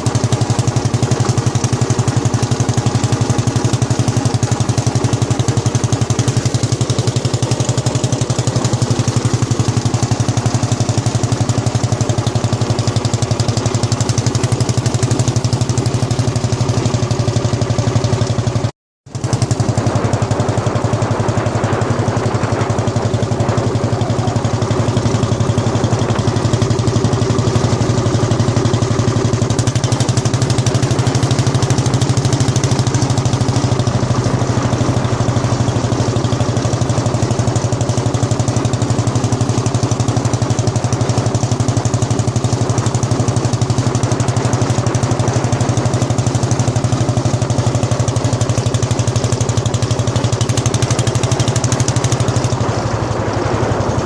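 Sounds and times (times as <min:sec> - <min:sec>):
tractor engine thudding: 0:00.0 - 0:18.4, 0:22.7 - 0:54.0.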